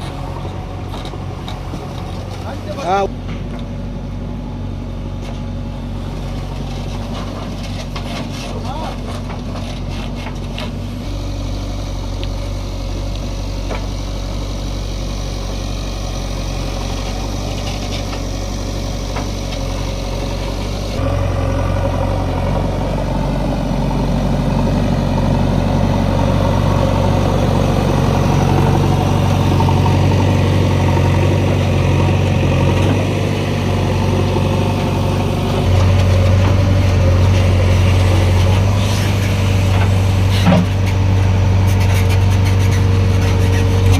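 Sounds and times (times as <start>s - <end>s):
diesel engine of heavy machinery: 0.0s - 43.9s.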